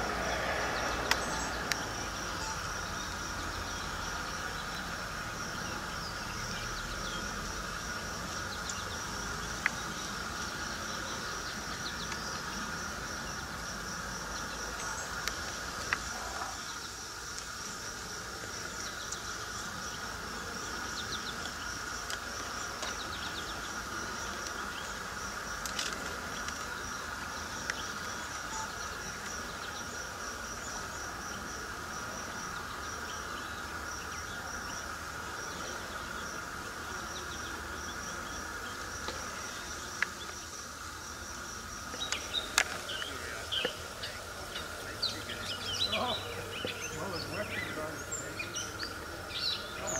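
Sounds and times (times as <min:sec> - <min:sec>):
insect chorus trilling: 0:00.0 - 0:49.9.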